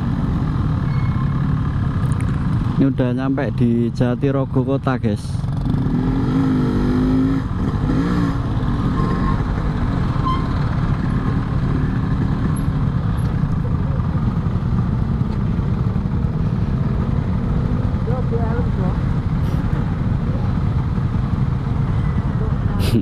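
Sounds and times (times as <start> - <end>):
two-stroke motorcycle engine running: 0.0 - 23.0.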